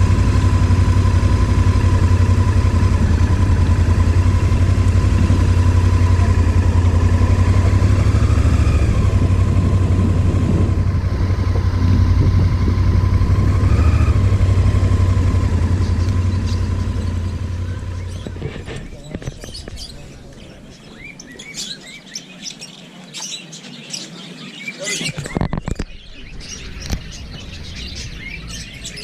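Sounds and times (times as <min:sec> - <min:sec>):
motorcycle engine rumbling: 0:00.0 - 0:21.5, 0:24.9 - 0:29.0.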